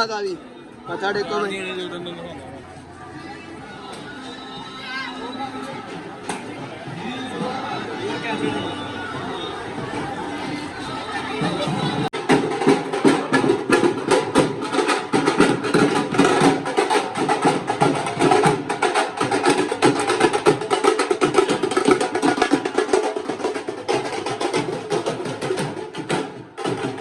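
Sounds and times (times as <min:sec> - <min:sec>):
drums beating: 0:03.4 - 0:27.0.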